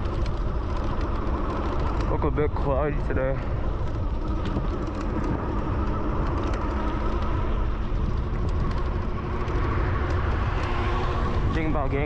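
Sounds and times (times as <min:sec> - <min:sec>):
bicycle tyre and road noise: 0:00.0 - 0:12.0
wind rumbling on microphone: 0:00.0 - 0:12.0.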